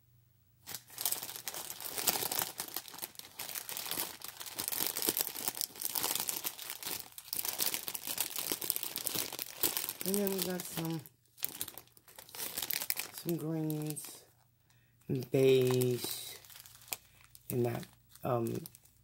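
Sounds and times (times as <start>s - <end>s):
plastic bags crinkling: 0.6s - 19.0s.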